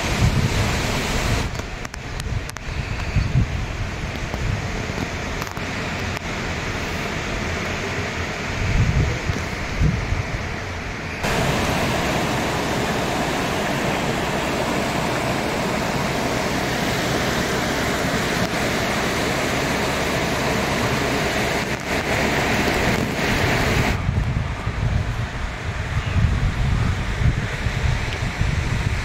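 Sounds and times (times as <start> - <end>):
stream rushing over rocks: 0.0 - 25.9.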